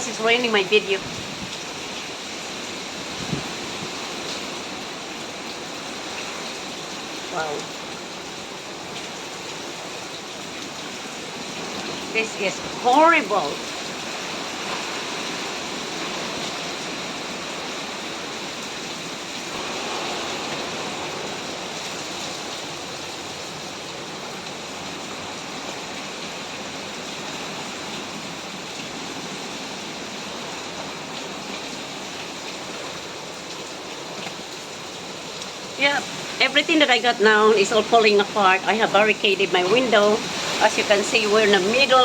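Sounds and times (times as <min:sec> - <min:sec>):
driving rain: 0:00.0 - 0:42.0
strong wind: 0:00.0 - 0:42.0.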